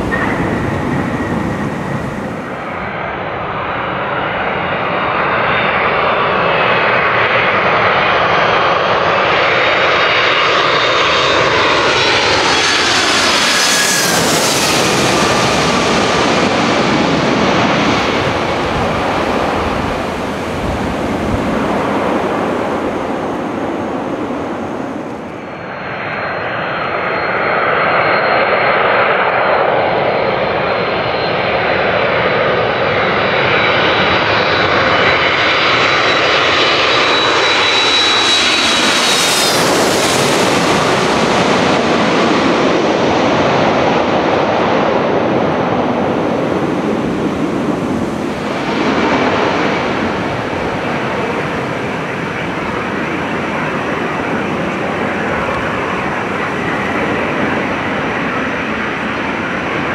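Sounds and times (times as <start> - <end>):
high jet engine whine: 0.0 - 59.9
jet airliner passing overhead: 0.0 - 59.9
landing jet engine noise: 0.0 - 59.9.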